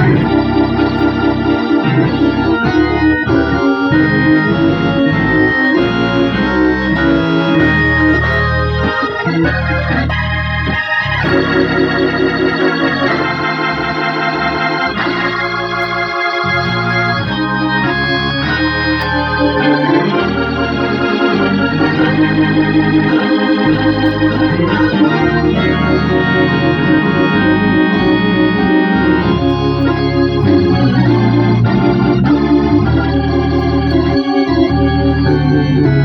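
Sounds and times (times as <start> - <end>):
organ playing wavering chords: 0.0 - 36.0.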